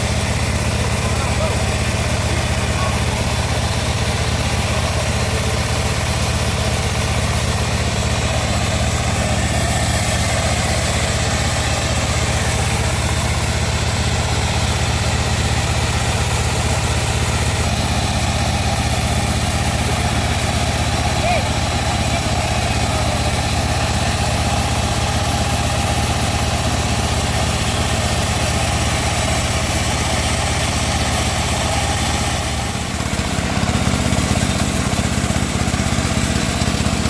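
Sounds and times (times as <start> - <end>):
bandsaw mill drone: 0.0 - 37.0.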